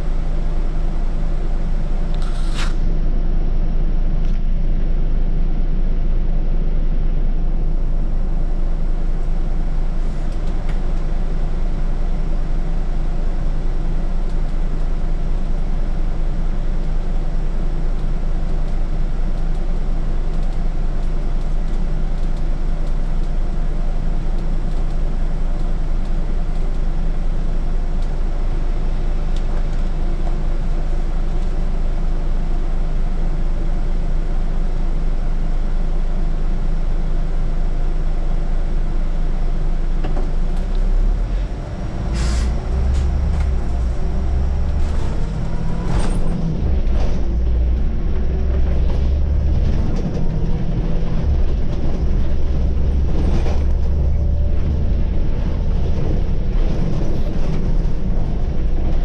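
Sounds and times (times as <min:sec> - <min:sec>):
bus engine humming: 0:00.0 - 0:59.0.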